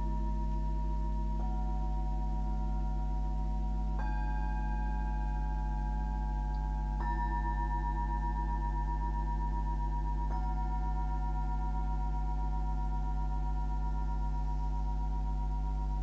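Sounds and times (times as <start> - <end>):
singing bowls ringing: 0.0 - 16.0
steady low hum: 0.0 - 16.0.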